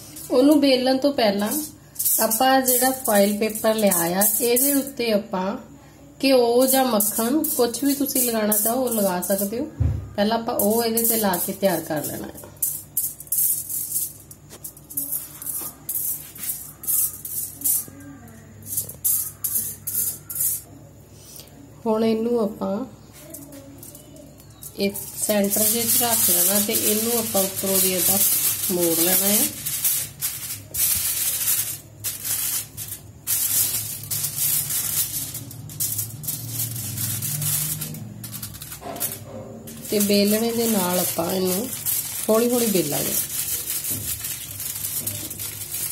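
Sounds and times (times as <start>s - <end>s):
pastry brush rustling on foil: 0.0s - 5.0s, 6.6s - 9.6s, 10.6s - 18.0s, 18.7s - 20.7s, 23.1s - 45.9s.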